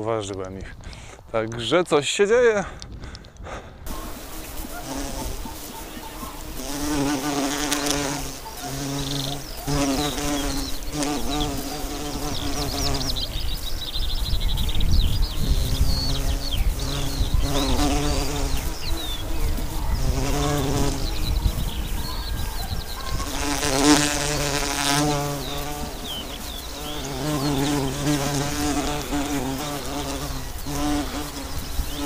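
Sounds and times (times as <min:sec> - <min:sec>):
bumblebee buzzing in flight: 0:03.9 - 0:32.0.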